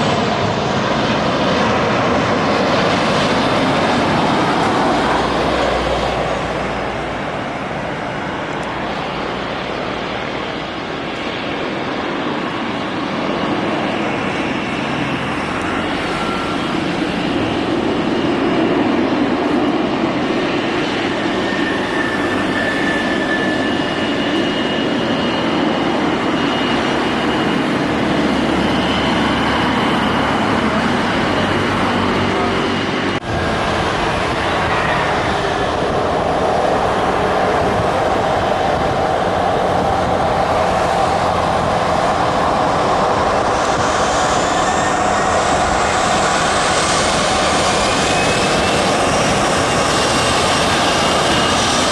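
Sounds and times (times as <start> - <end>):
jet engine roar: 0.0 - 51.9.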